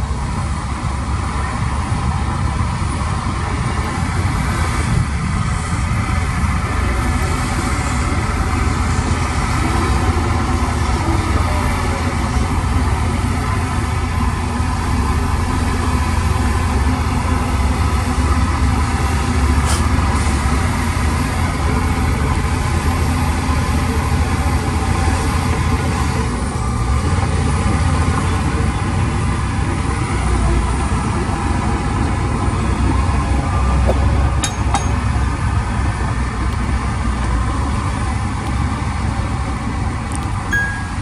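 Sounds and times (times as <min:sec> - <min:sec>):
heavy diesel engine rumbling: 0:00.0 - 0:41.0.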